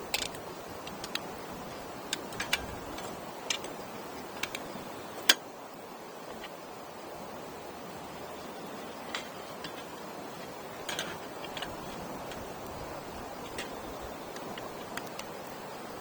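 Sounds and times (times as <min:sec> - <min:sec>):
burning wood crackling and popping: 0:00.0 - 0:05.5, 0:08.3 - 0:16.0
campfire hissing: 0:00.0 - 0:16.0.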